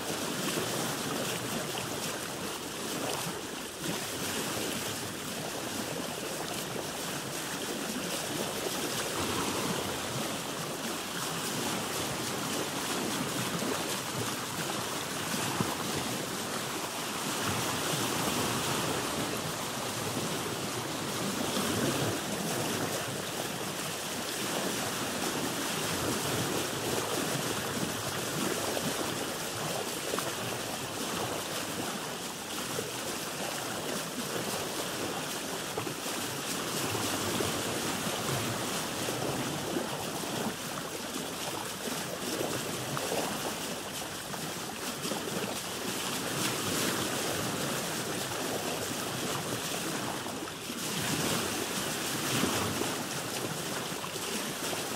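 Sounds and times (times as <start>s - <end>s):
water splashing against boat hull: 0.0s - 54.9s.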